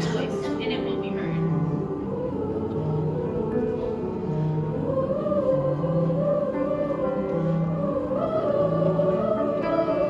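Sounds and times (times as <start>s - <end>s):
slow background music: 0.0s - 10.0s.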